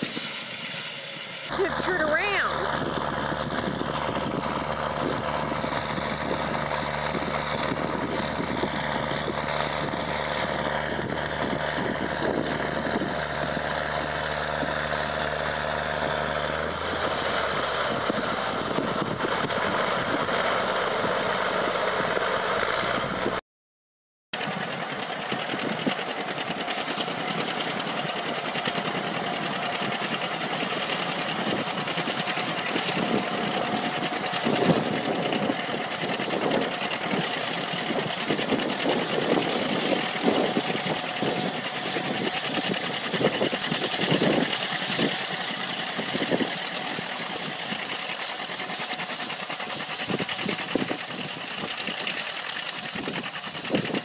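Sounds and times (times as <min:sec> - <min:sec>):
tractor diesel engine running: 0:00.0 - 0:23.4, 0:24.3 - 0:54.0
tractor diesel under load: 0:00.0 - 0:23.4, 0:24.3 - 0:54.0.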